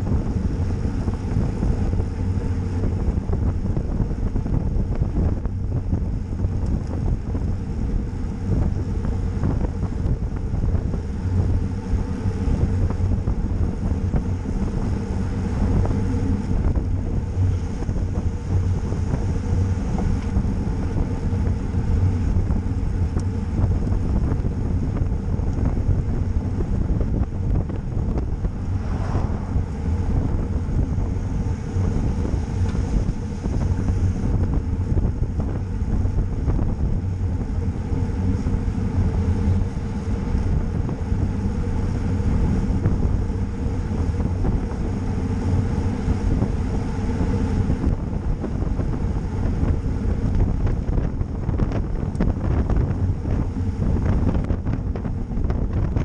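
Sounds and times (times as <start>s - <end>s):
bicycle tyre noise: 0.0s - 54.5s
wind rumble on microphone: 0.0s - 56.0s.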